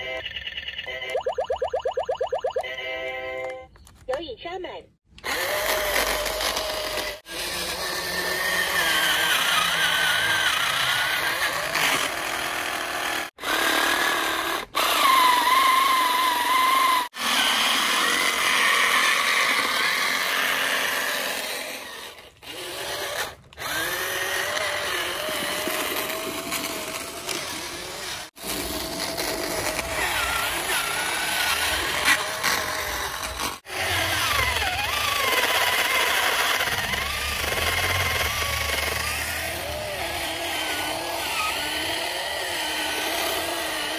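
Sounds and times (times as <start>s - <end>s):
small electric motor whirring: 5.1s - 43.9s.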